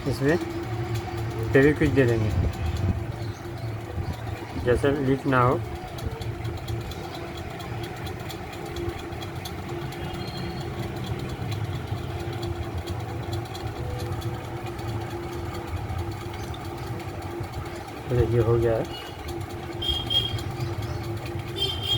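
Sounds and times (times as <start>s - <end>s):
engine rumbling: 0.0s - 21.9s.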